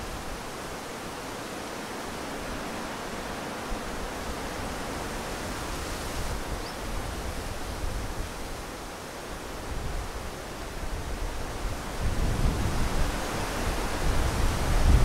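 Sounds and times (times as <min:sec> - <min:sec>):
leaves rustling in wind: 0:00.0 - 0:15.0.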